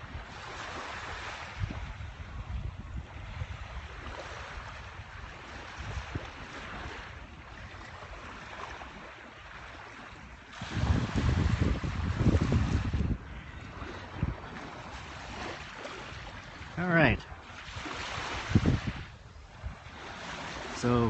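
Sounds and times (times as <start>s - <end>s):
ocean surf on beach: 0.0s - 21.0s
wind rumbling on microphone: 0.0s - 21.0s.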